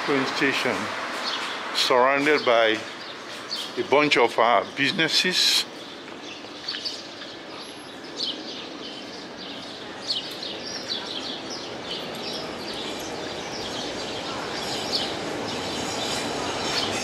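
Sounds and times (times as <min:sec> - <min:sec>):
city street noise: 0:00.0 - 0:17.0
small birds chirping: 0:00.6 - 0:17.0.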